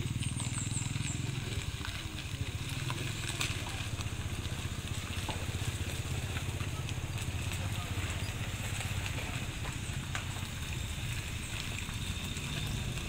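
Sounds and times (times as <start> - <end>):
engine throbbing steadily: 0.0 - 13.0.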